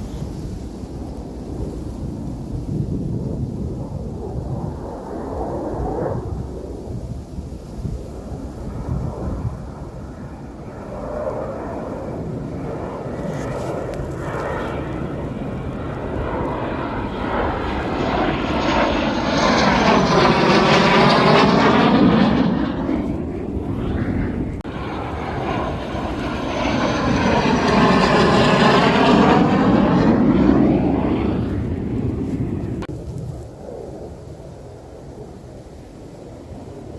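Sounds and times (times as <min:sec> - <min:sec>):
airplane flying over: 0:00.0 - 0:36.9.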